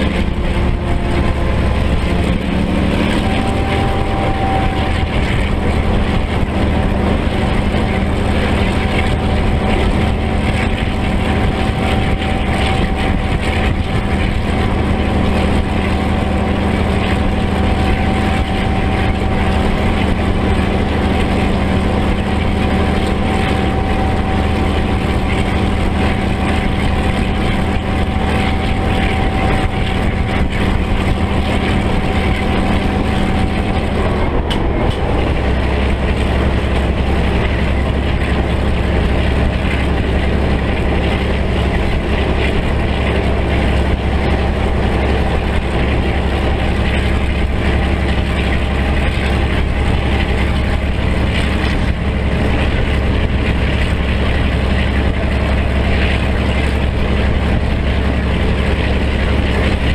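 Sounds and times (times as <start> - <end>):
diesel locomotive engine running: 0.0 - 59.9
moving train running noise: 0.0 - 59.9.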